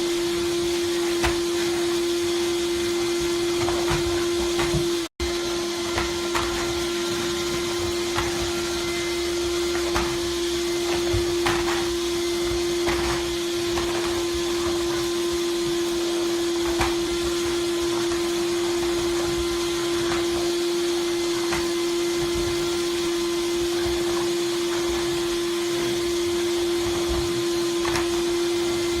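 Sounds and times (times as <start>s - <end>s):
vacuum cleaner motor humming: 0.0s - 29.0s.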